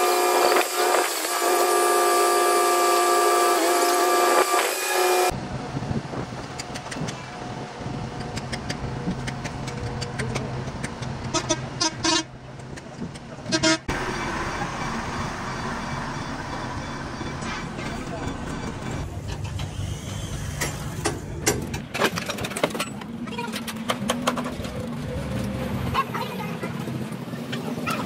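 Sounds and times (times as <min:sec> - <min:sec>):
traffic noise: 0:03.2 - 0:28.0.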